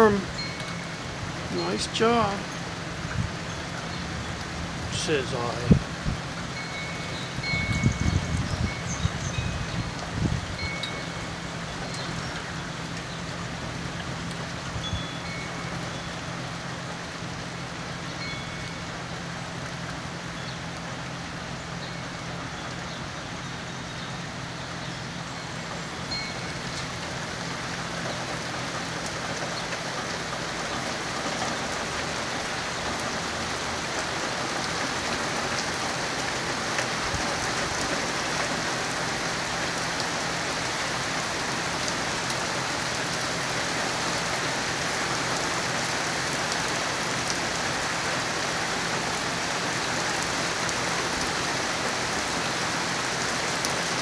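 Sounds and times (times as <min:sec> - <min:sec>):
rain falling on wet pavement: 0:00.0 - 0:54.0.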